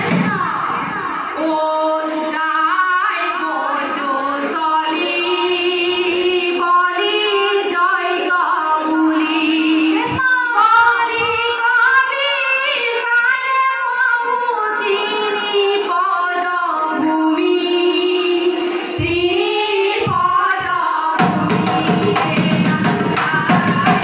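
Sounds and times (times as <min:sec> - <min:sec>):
women singing devotional chant: 0:00.0 - 0:24.0.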